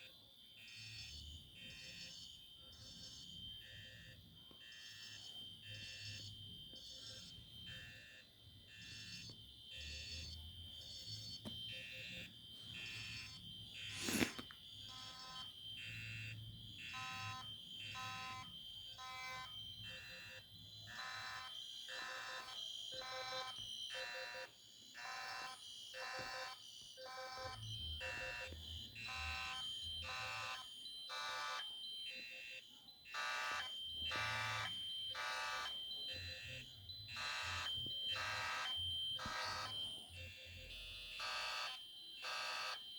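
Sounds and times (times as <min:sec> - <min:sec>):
fire alarm horn blasts: 0:00.0 - 0:42.9
high-pitched alarm tone: 0:00.6 - 0:24.5, 0:25.1 - 0:42.9.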